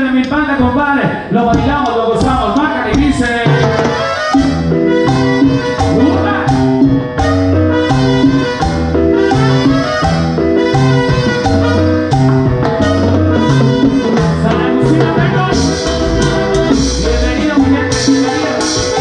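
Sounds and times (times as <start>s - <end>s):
latin dance band playing: 0.0s - 19.0s.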